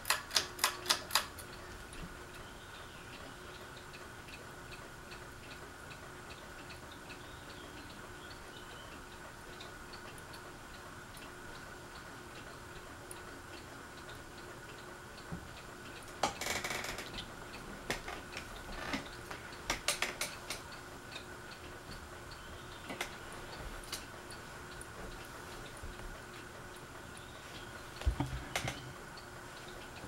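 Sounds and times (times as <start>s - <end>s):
ceiling fan humming and ticking: 0.0s - 30.0s.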